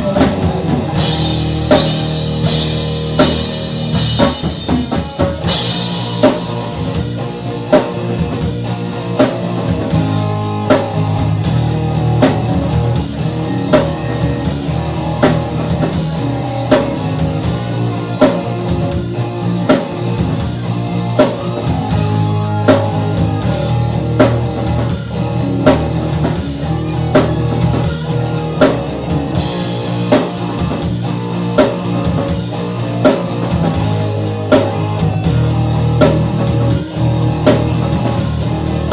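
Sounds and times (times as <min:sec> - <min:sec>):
rock music: 0:00.0 - 0:38.9.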